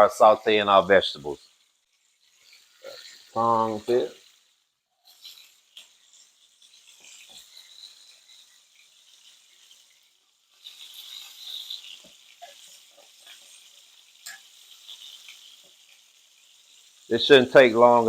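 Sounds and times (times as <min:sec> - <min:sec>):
chicken sizzling in a pan: 0:00.0 - 0:18.0.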